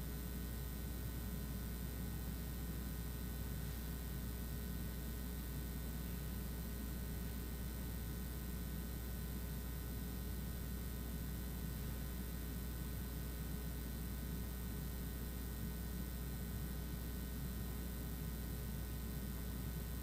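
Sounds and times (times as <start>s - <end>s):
low hum with faint hiss: 0.0s - 20.0s.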